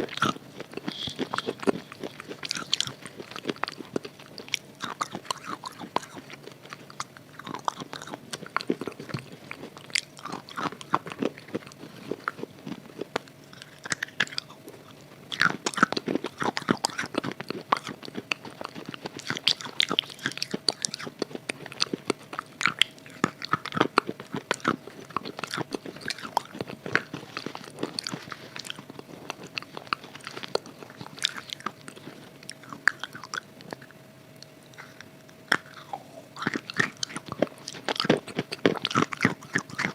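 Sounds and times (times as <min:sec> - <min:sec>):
chalk bar crunching when chewed: 0:00.0 - 0:39.9.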